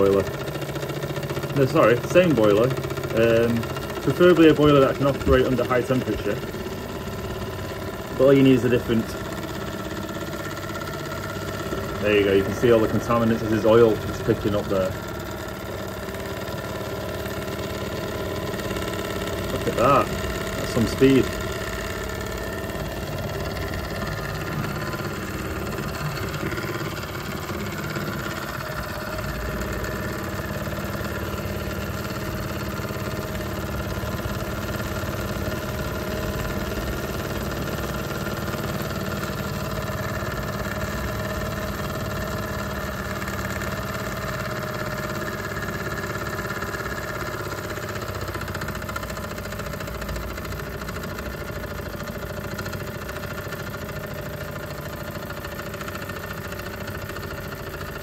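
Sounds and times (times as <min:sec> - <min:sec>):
model steam engine running fast: 0:00.0 - 0:58.0.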